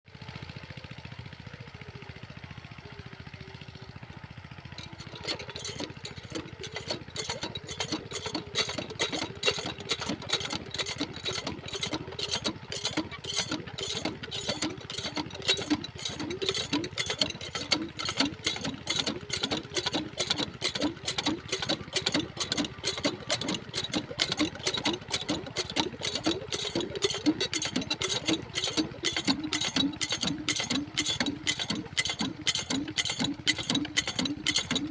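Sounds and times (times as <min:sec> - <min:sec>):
diesel pump engine chugging: 0:00.1 - 0:34.9.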